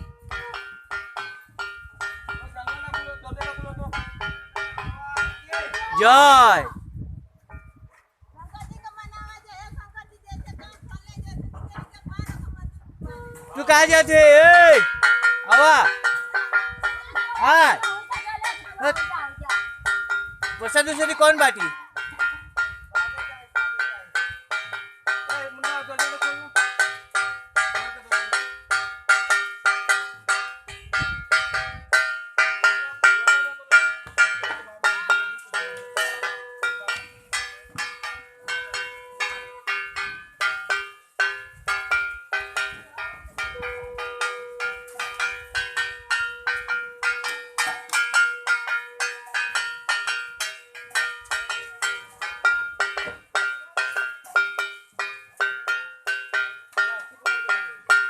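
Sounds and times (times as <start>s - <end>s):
metal bells ringing rapidly: 0.0s - 6.7s, 13.6s - 58.0s.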